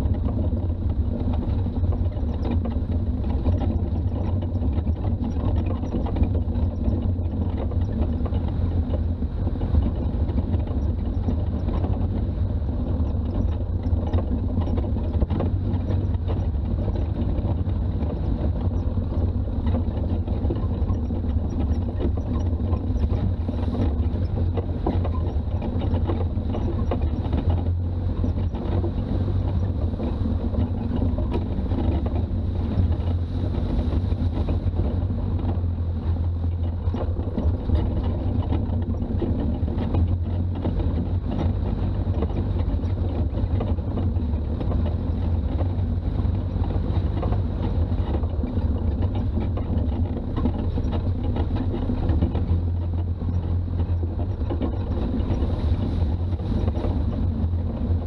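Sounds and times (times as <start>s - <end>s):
diesel engine driving: 0.0s - 58.0s.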